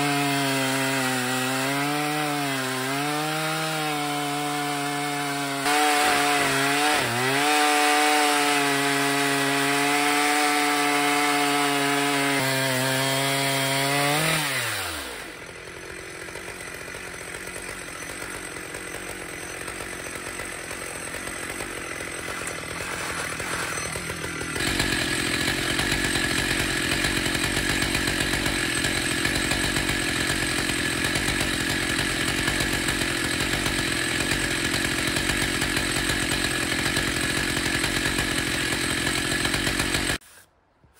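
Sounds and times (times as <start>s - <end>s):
chainsaw cutting log: 0.0s - 40.6s.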